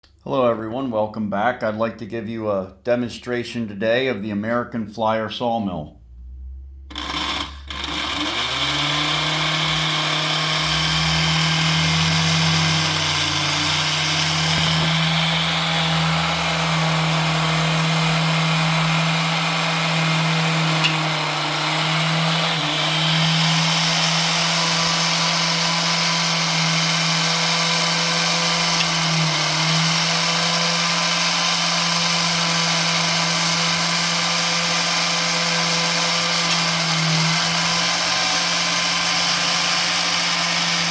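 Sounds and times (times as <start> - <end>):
electric motor whirring buzz: 6.9 - 40.9.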